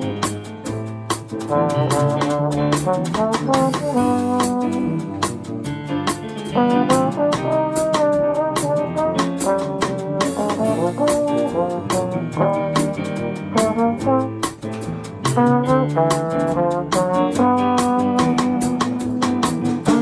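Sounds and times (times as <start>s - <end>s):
drums: 0.0s - 20.0s
jazz trombone melody: 0.0s - 20.0s
piano: 0.0s - 20.0s
upright bass: 0.0s - 20.0s.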